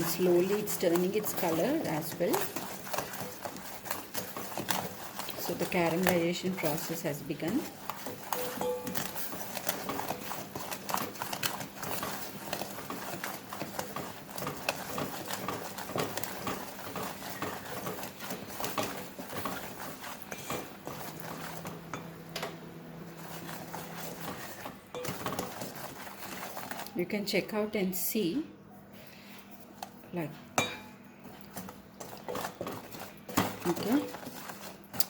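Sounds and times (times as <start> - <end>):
spoon knocking and scraping a pan: 0.0 - 26.9, 30.6 - 35.0.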